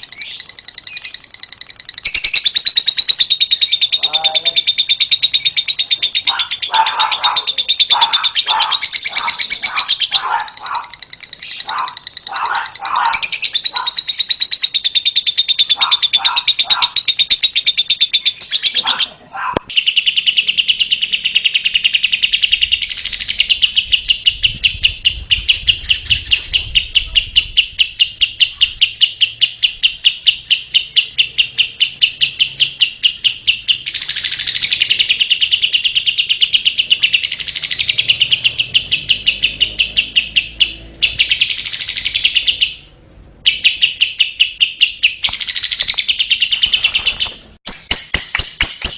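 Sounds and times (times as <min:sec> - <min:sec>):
lovebird chirping song: 0:00.0 - 0:48.9.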